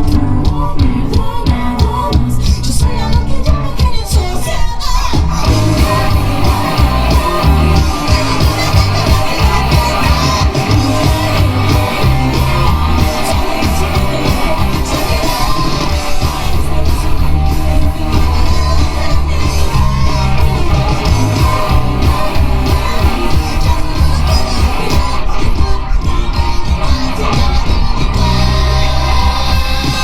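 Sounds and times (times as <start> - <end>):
live rock band: 0.0 - 30.0
woman singing: 0.0 - 30.0.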